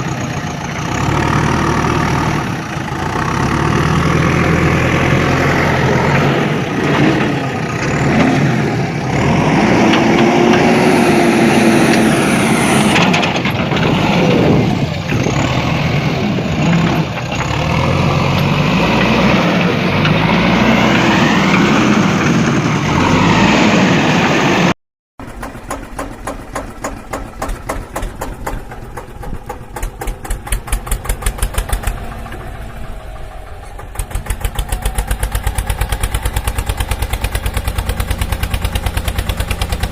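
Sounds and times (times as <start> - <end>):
vehicle engine revving: 0.8 - 25.4, 27.0 - 39.9.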